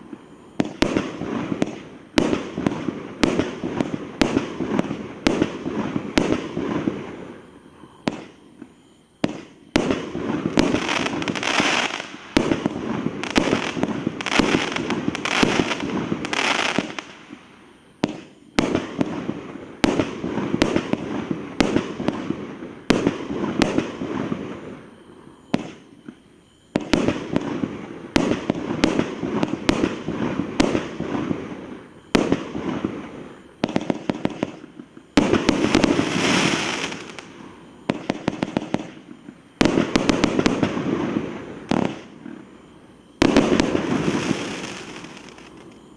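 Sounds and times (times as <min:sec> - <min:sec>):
firework shots with fizzing bursts: 0:08.0 - 0:42.5, 0:43.2 - 0:45.9.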